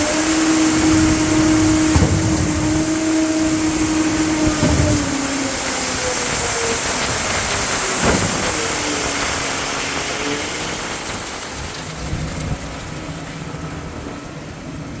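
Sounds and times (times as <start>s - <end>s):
engine running: 0.0s - 15.0s
steady rushing noise: 0.0s - 15.0s.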